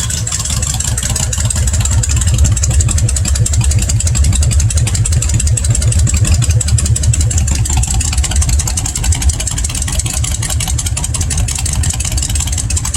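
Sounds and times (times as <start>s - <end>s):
motorcycle idling: 0.0s - 12.9s.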